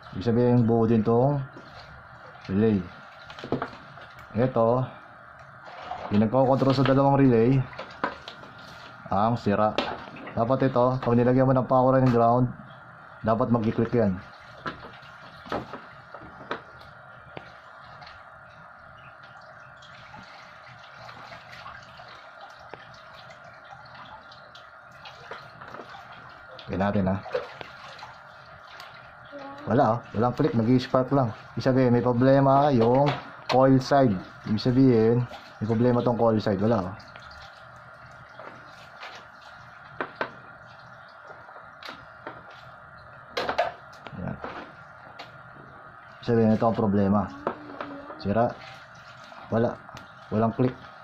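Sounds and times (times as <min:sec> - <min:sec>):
faint hum: 0:00.0 - 0:51.0.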